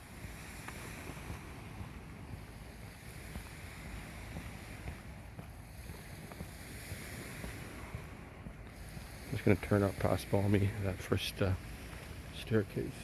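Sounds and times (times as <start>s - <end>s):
lake waves along shore: 0.0s - 13.0s
wind rumbling on microphone: 0.0s - 13.0s.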